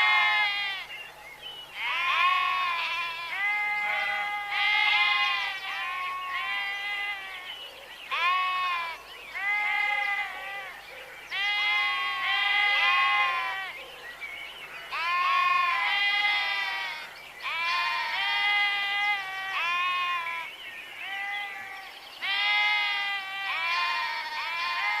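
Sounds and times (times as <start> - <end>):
sheep bleating: 0.0 - 0.9, 1.8 - 7.5, 8.1 - 13.7, 14.9 - 25.0.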